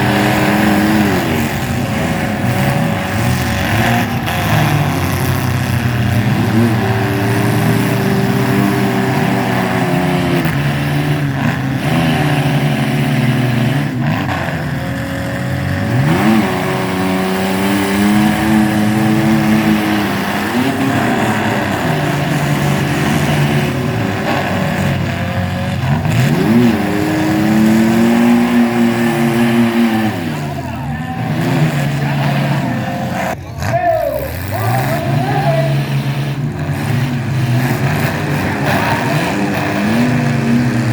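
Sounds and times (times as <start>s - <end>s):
truck engines revving: 0.0s - 40.9s.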